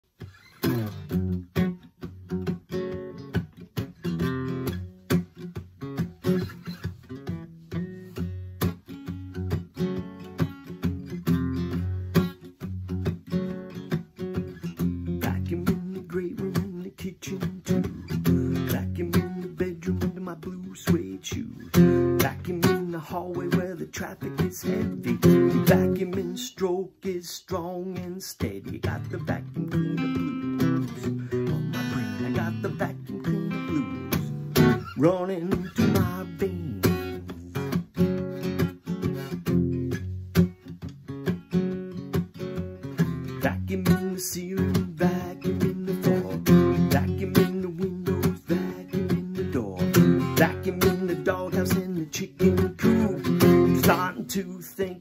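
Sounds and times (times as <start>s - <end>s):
acoustic guitar blues playing: 0.1s - 55.0s.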